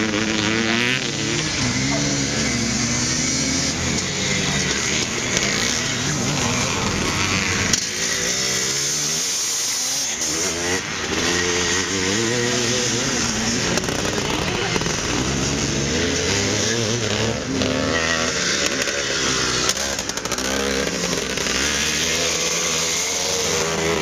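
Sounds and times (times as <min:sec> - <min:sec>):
motocross bikes revving: 0:00.0 - 0:24.0
motorbike passing close by: 0:00.0 - 0:24.0.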